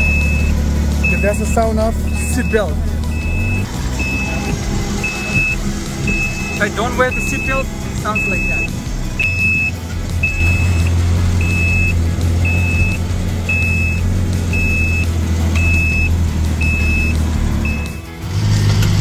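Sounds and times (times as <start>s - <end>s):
seatbelt warning beeps: 0.0s - 18.1s
engine running low: 0.0s - 19.0s.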